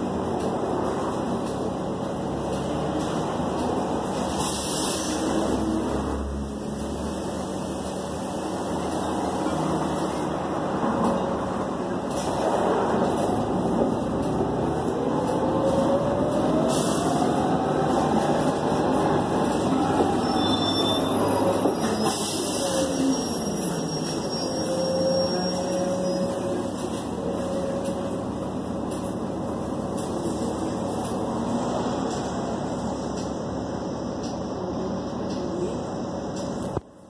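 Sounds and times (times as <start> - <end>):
bus engine and road noise: 0.0 - 37.0.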